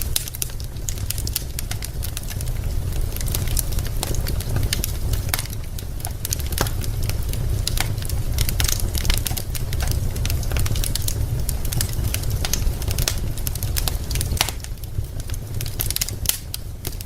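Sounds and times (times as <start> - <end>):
burning logs crackling: 0.0 - 17.0
low fire rumble: 0.0 - 17.0.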